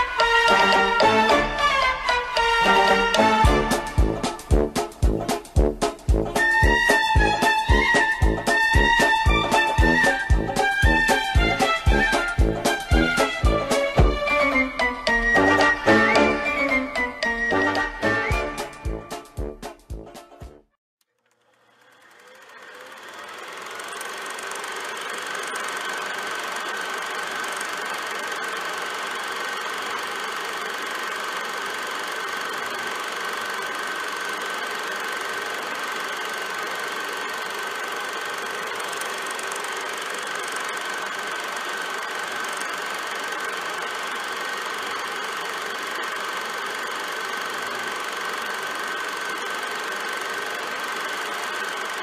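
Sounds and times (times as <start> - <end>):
small motor running with whine: 6.3 - 18.9, 21.0 - 52.0.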